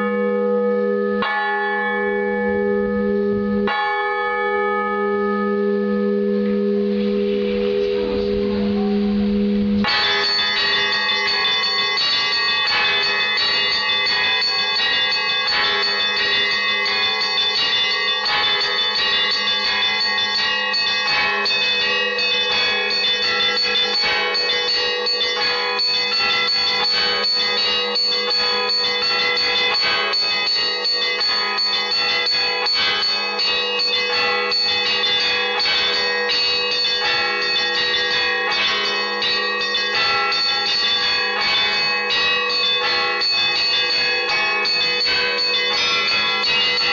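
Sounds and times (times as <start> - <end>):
church bells ringing: 0.0 - 46.9
sustained low bell tone: 0.0 - 46.9.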